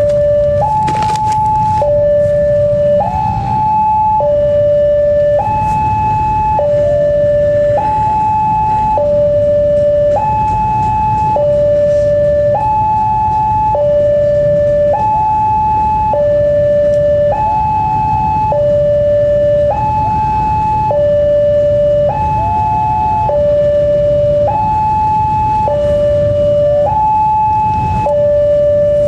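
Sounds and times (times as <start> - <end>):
two-tone crossing alarm: 0.0 - 29.0.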